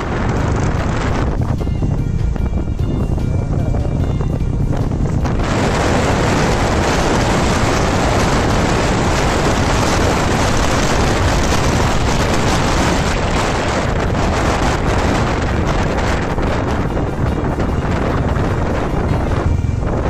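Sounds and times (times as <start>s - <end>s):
motorcycle engine and road noise: 0.0s - 20.0s
wind rushing on microphone: 0.0s - 20.0s.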